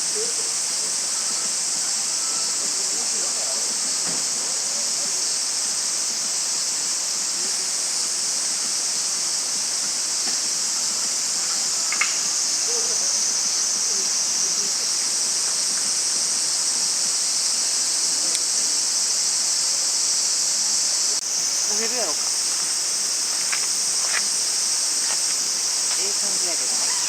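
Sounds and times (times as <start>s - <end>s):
high-pitched insect chorus: 0.0s - 27.0s.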